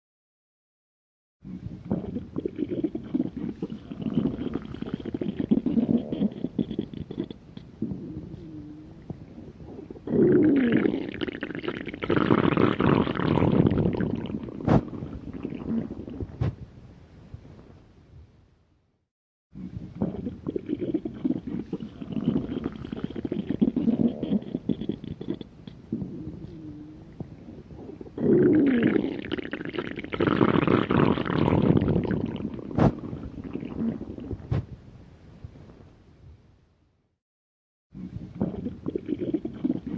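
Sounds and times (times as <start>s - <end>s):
stomach growling: 1.4s - 16.6s, 19.6s - 34.8s, 38.0s - 39.9s.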